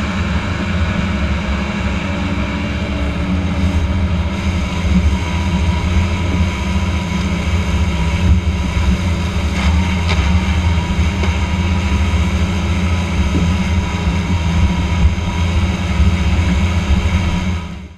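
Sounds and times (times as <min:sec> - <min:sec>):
mower drive whine: 0:00.0 - 0:17.9
tractor engine drone: 0:00.0 - 0:17.9.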